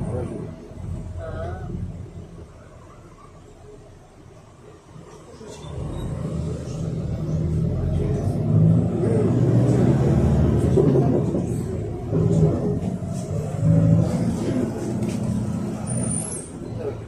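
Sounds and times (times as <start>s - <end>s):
bus engine running: 0.0s - 17.0s
road rumble: 0.0s - 17.0s.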